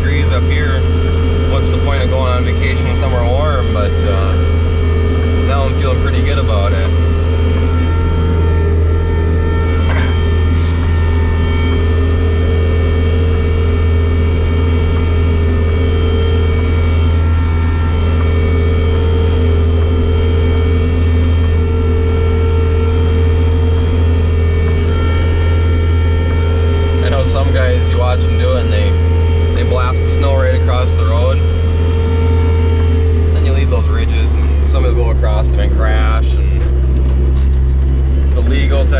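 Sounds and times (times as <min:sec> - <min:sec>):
diesel engine running: 0:00.0 - 0:38.9
steady whine: 0:00.0 - 0:38.9.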